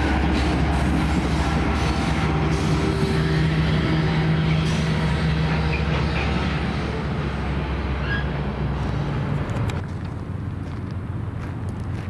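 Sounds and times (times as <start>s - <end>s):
diesel locomotive engine drone: 0.0s - 12.0s
train wheels rumbling on rail: 0.0s - 12.0s.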